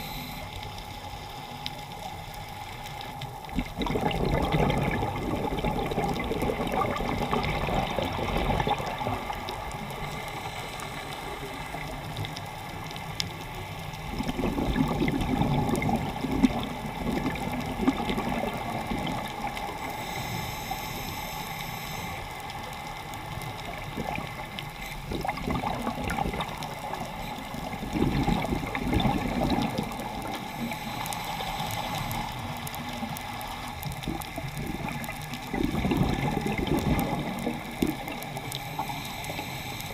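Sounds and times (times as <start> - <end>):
underwater water rush: 0.0 - 39.9
exhaled bubbles gurgling: 1.6 - 20.8, 21.8 - 39.9.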